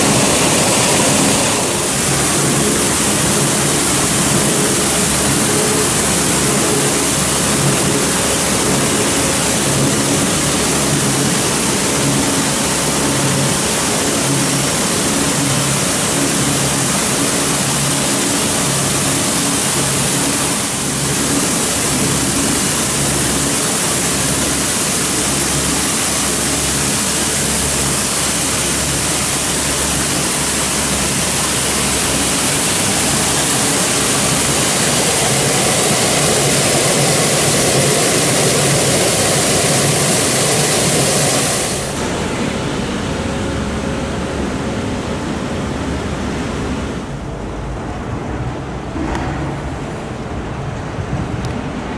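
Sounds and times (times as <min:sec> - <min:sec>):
loud even rushing noise: 0:00.0 - 0:51.9
low steady hum: 0:00.0 - 0:51.9.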